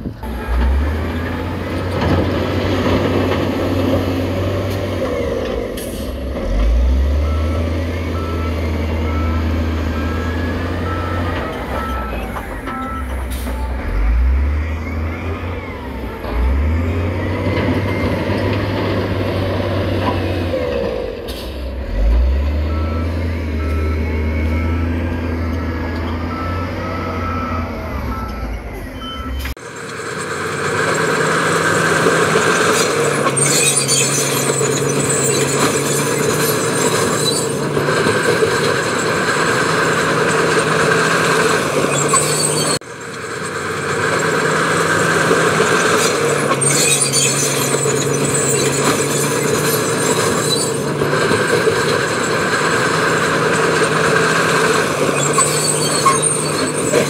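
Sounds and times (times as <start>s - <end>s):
heavy construction machinery running: 0.0s - 57.0s.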